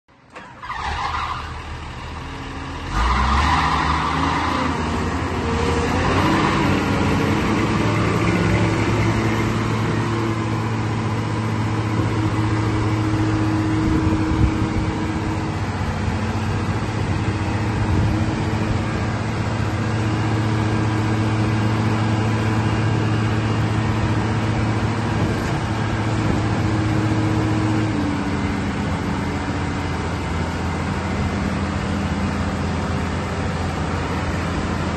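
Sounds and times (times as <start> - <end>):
diesel engine revving: 0.2 - 34.9.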